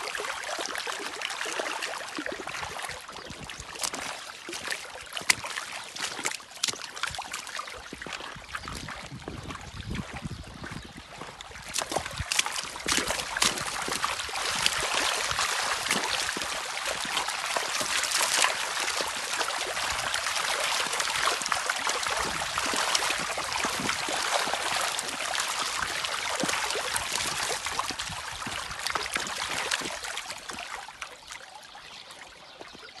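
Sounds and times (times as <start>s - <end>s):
water trickling over stones: 0.0s - 33.0s.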